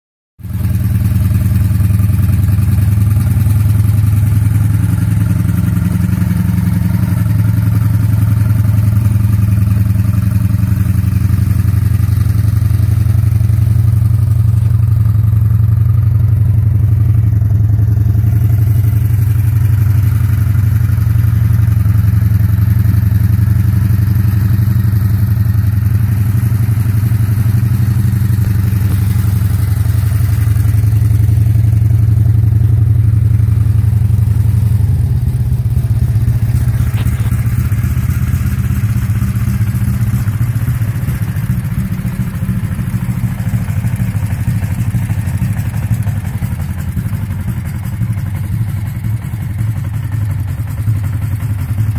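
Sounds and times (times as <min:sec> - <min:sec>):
motorcycle engine idling: 0:00.4 - 0:51.9.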